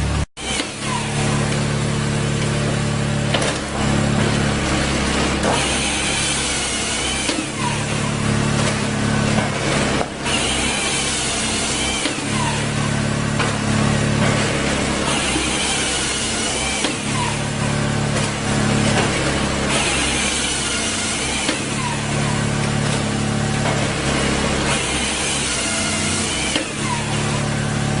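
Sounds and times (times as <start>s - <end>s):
firewood processor engine running: 0.0s - 28.0s.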